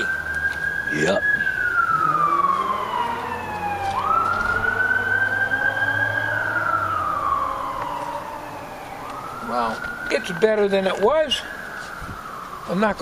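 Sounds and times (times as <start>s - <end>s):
emergency siren wailing: 0.0s - 13.0s.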